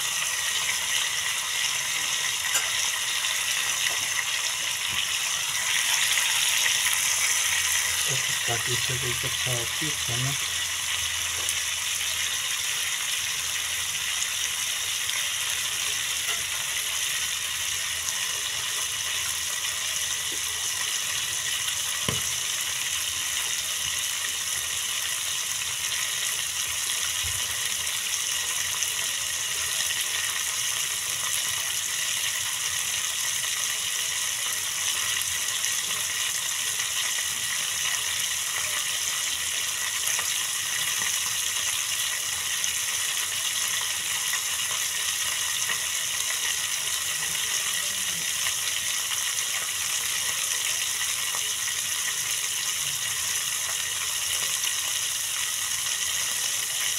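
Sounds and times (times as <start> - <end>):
meat sizzling in oil: 0.0 - 56.9.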